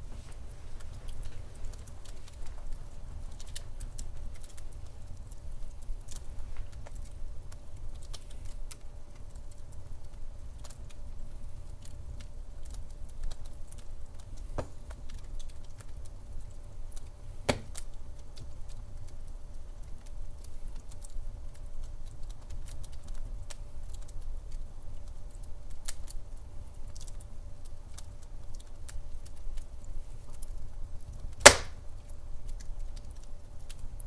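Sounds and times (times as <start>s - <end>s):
low fire rumble: 0.0s - 34.0s
wood fire crackling: 0.0s - 34.0s.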